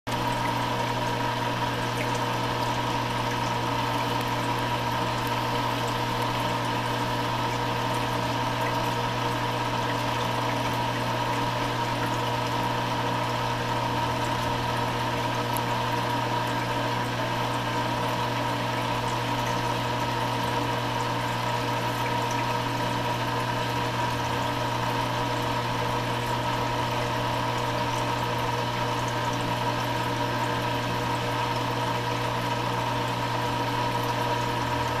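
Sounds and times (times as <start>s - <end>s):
pump hum: 0.1s - 35.0s.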